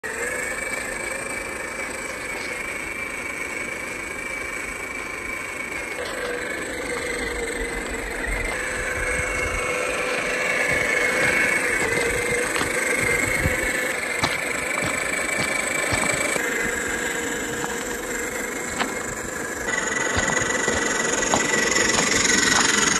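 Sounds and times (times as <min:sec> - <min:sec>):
electric motor and gears whining: 0:00.0 - 0:22.9.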